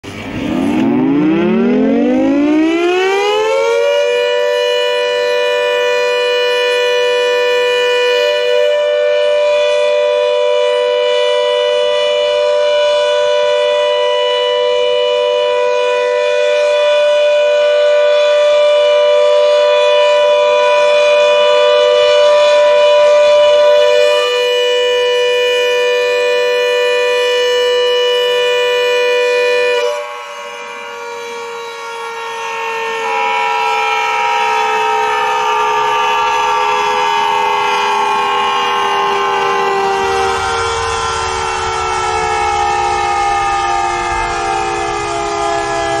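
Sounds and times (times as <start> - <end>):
air-raid siren wailing: 0.0 - 46.0.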